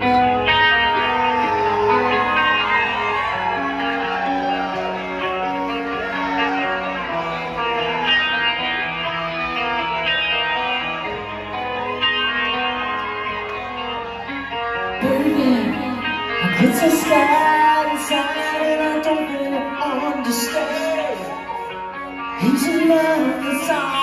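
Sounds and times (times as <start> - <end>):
electric guitar arpeggios: 0.0 - 24.0.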